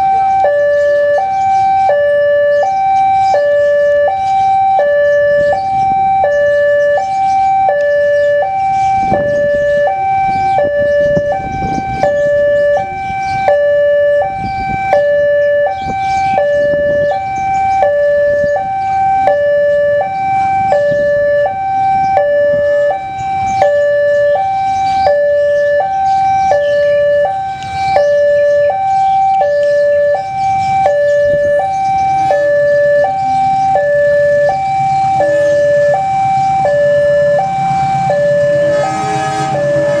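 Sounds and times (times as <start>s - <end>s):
two-tone crossing warning alarm: 0.0s - 40.0s.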